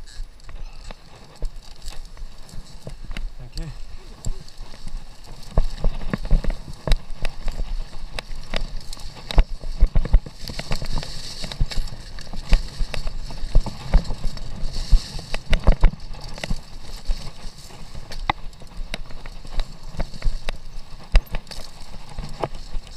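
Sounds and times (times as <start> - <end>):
bike rattling and clattering: 0.0 - 22.9
low thumps from rough ground: 0.0 - 22.9.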